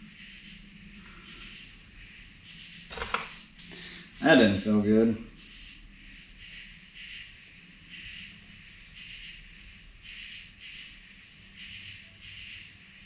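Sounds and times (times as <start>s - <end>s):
faint high-pitched chirps: 0.0s - 2.9s, 3.7s - 13.0s
thin high whine: 0.0s - 13.0s.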